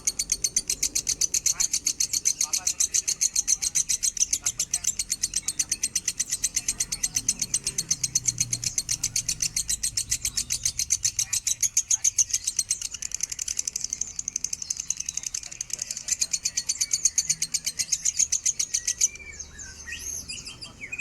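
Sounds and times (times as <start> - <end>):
lovebird chirping rapidly: 0.0 - 21.0.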